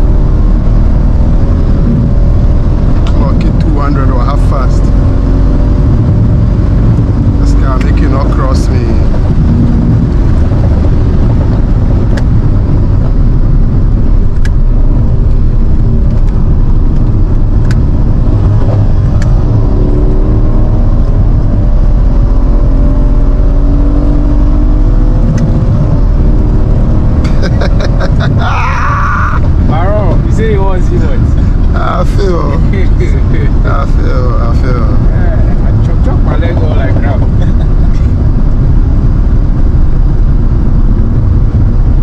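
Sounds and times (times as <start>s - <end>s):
car engine accelerating: 0.0s - 42.0s
road and wind rumble: 0.0s - 42.0s.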